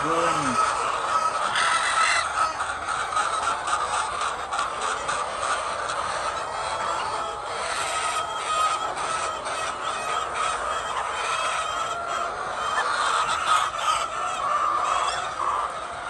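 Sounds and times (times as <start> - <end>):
flock of hens clucking: 0.0 - 16.0.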